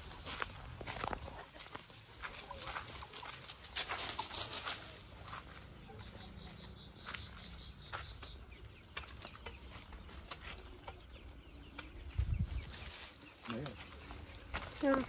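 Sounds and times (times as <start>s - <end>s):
footsteps on garden path: 0.0s - 15.0s.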